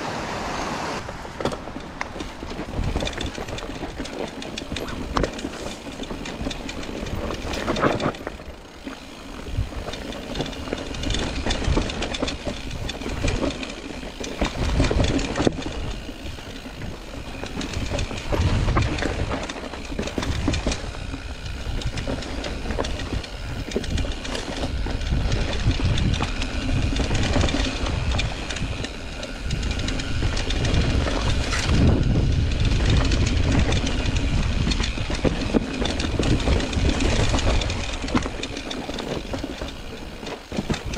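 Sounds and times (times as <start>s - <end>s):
mountain bike rattling over rocks: 1.0s - 40.9s.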